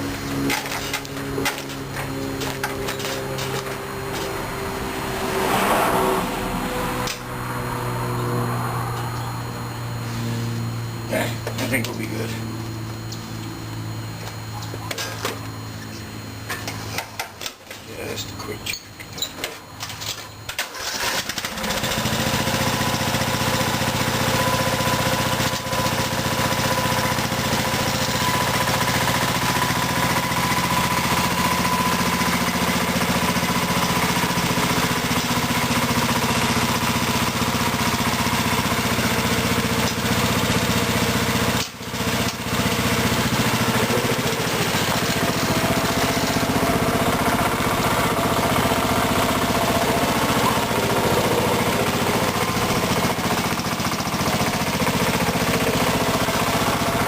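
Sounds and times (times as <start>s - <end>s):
riding mower engine running: 0.0s - 57.0s.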